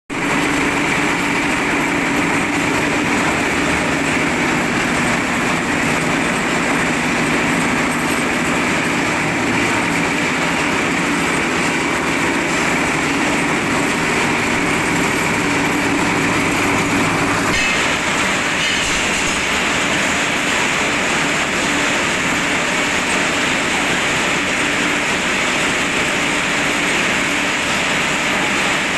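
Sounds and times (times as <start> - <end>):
concrete mixer running: 0.1 - 28.9.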